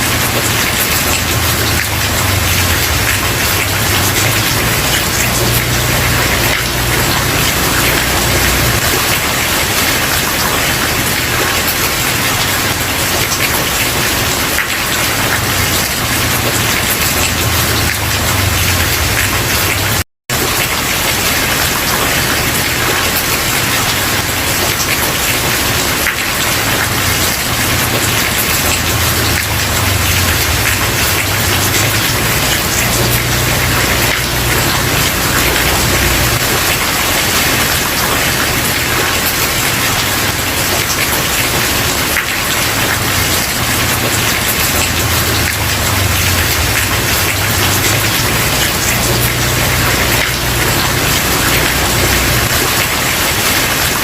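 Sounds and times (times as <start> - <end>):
rain on a wooden porch: 0.0 - 54.0.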